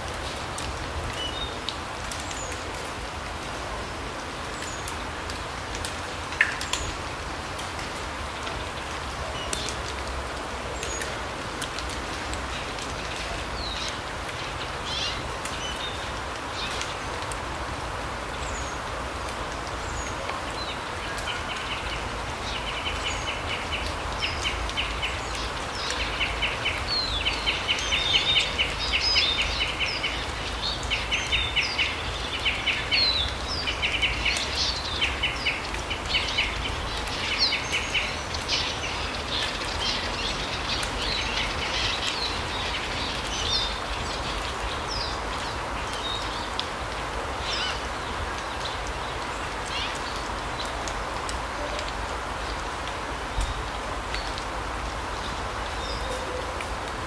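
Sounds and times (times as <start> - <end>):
forest background hiss: 0.0 - 57.0.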